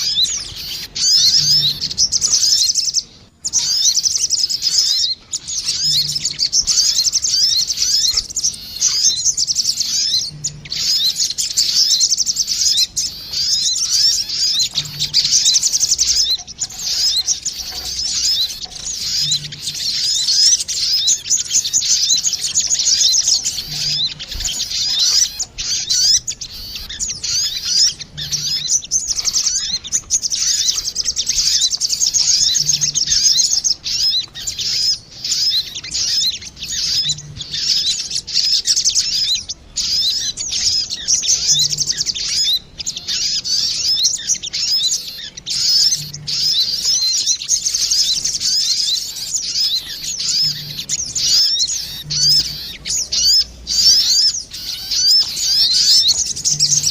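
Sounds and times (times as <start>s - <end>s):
birds twittering chirps: 0.0s - 56.9s.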